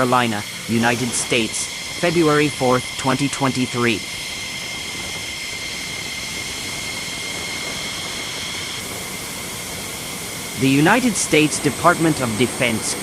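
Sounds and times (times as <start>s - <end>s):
jet engine running: 0.0s - 13.0s.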